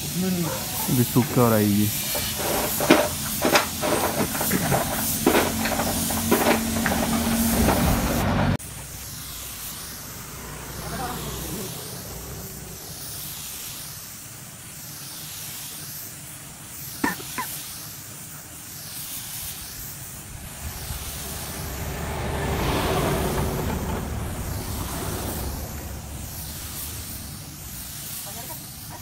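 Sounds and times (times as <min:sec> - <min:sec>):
spray gun hissing: 0:00.0 - 0:29.0.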